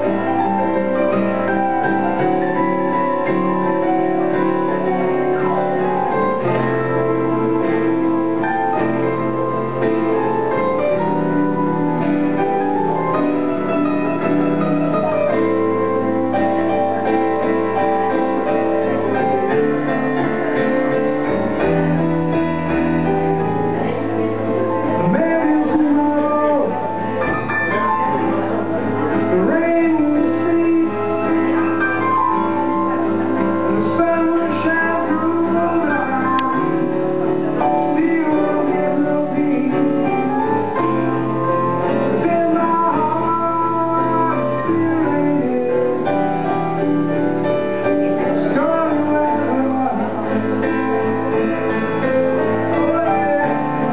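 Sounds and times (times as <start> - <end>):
slow jazz piano ballad: 0.0 - 53.9
sustained bass notes: 0.0 - 53.9.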